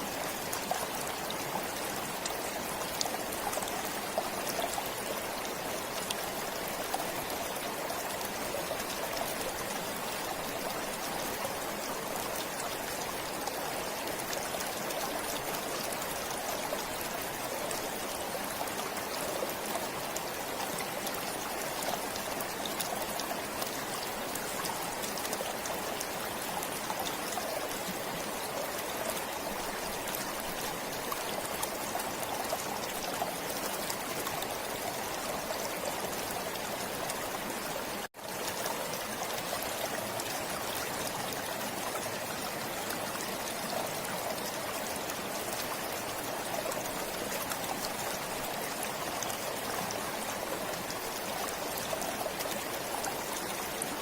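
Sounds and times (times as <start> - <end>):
forest stream flowing: 0.0 - 54.0.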